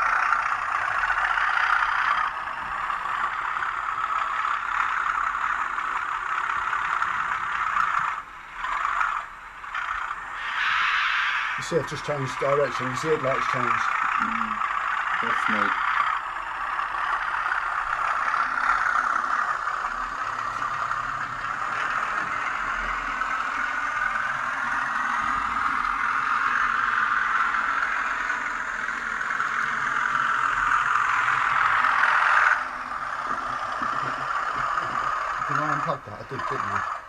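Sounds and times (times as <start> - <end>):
model train diesel engine sound: 0.0 - 37.0.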